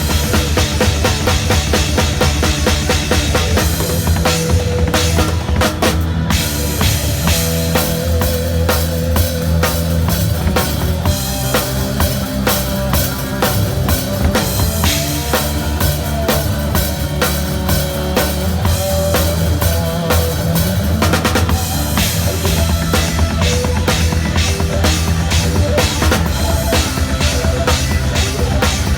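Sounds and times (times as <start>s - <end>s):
drum kit rock beat: 0.0s - 28.9s.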